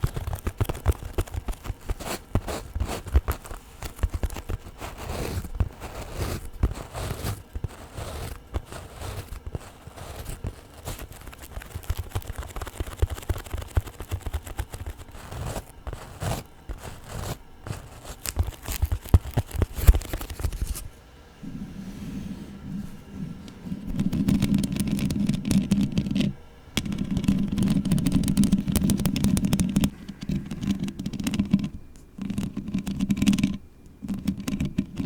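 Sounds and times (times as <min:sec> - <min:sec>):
fingernails scratching a microphone: 0:00.0 - 0:21.6, 0:22.2 - 0:35.0
low steady hum: 0:00.0 - 0:35.0.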